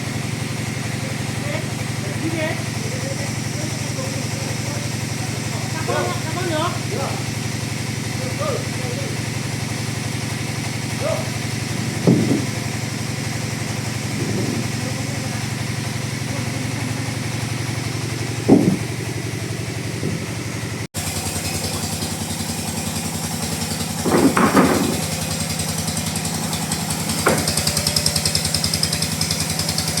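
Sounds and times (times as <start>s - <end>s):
chainsaw engine idling: 0.0s - 30.0s.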